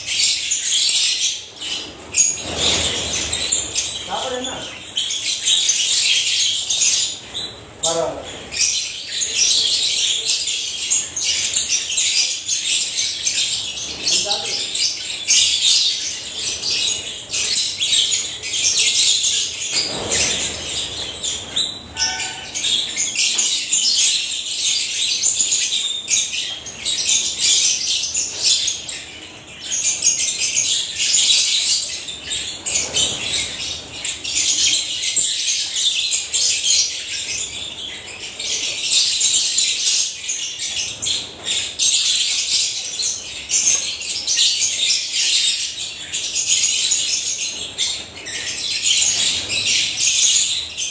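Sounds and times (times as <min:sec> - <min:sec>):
birds chattering and chirping: 0:00.0 - 0:50.9.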